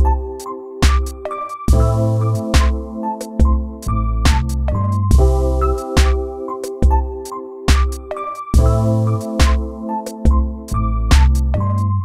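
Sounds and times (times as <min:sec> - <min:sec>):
background music with deep bass: 0:00.0 - 0:12.0.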